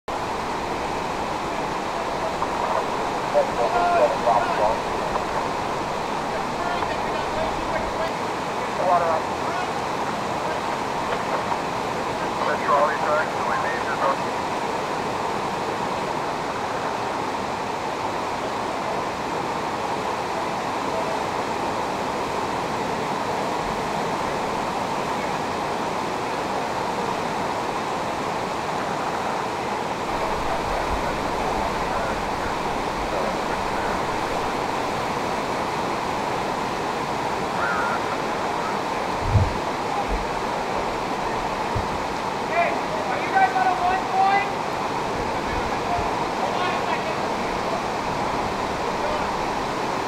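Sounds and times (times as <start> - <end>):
floodwater rushing: 0.1 - 50.0.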